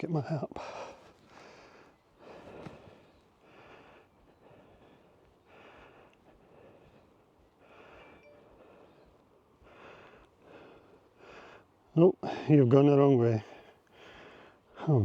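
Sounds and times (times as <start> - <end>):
person breathing heavily: 0.6 - 12.5, 13.4 - 15.0.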